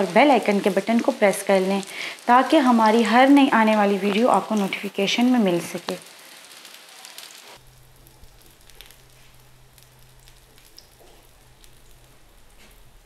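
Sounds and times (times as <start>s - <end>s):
oil sizzling with crackles: 0.0s - 13.0s.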